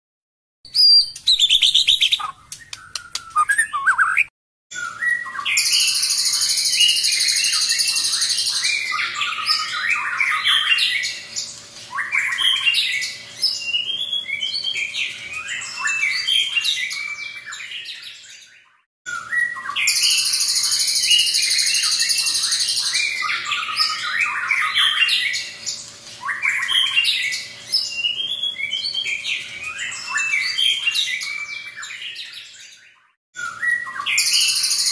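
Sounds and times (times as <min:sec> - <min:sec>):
bird singing varied phrases: 0:00.7 - 0:34.9.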